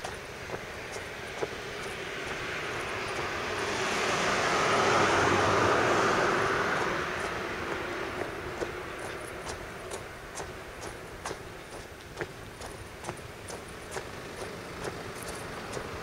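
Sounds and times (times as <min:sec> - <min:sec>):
faint footsteps: 0:00.0 - 0:16.0
vehicle passing: 0:00.0 - 0:16.0.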